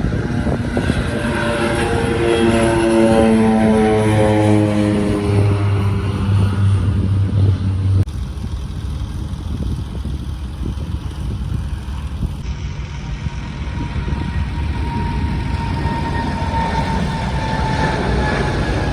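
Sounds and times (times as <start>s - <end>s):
low rumble: 0.0s - 18.9s
propeller aircraft engines droning: 0.0s - 18.9s.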